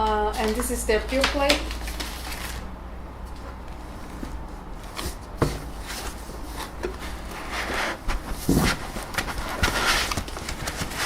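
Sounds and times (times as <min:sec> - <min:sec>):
low steady hum: 0:00.0 - 0:11.0
packaging rustling: 0:00.4 - 0:11.0.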